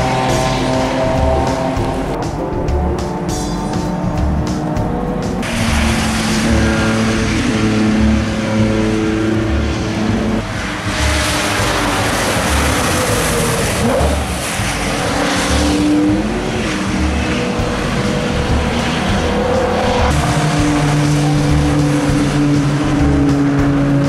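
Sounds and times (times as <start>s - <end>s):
racing car engine: 0.0s - 24.0s.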